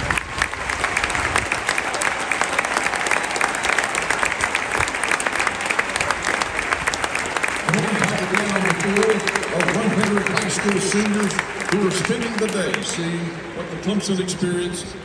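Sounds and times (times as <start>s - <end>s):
stadium crowd applauding: 0.0s - 14.6s.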